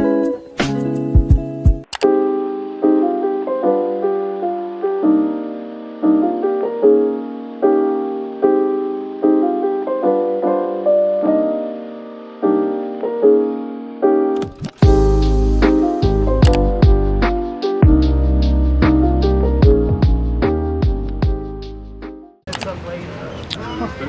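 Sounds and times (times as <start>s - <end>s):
soft electric piano chords: 0.0s - 24.0s.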